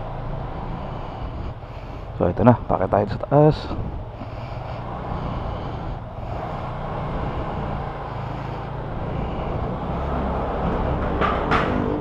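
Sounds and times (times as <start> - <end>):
scooter engine under load: 0.0 - 12.0.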